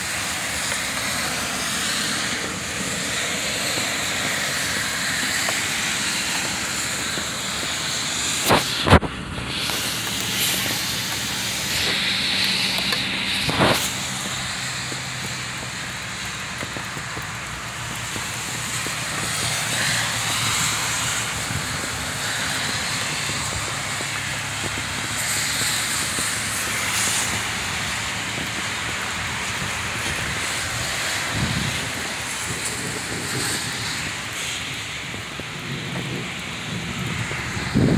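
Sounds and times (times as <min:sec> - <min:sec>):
heavy rain on pavement: 0:00.0 - 0:37.9.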